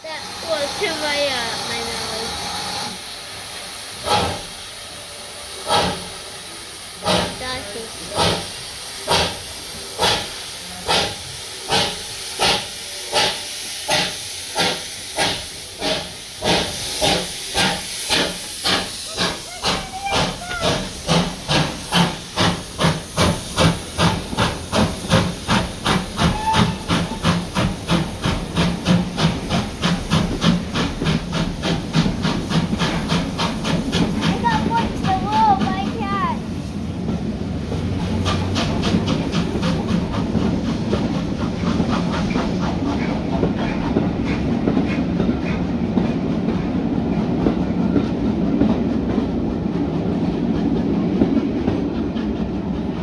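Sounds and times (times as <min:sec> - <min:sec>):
steam locomotive exhaust beats: 0:00.0 - 0:53.0.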